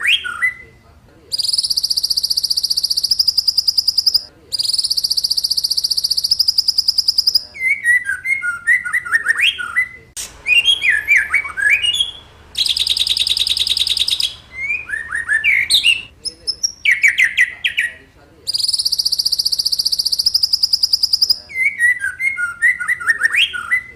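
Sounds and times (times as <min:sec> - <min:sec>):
songbird buzzy trills: 0:00.0 - 0:23.9
songbird whistled notes: 0:00.0 - 0:23.9.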